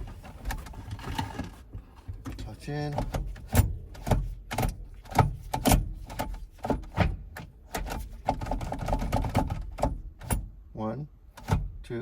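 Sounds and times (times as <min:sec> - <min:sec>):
gear shifter clicks and clunks: 0:00.0 - 0:10.7, 0:11.3 - 0:12.0.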